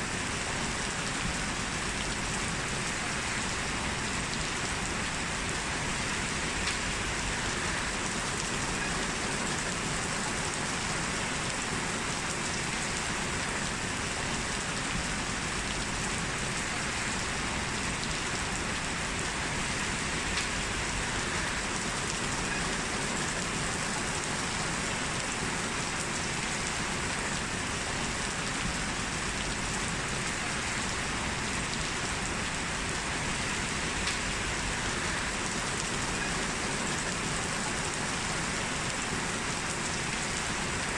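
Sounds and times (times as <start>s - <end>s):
heavy rain on a street: 0.0s - 40.9s.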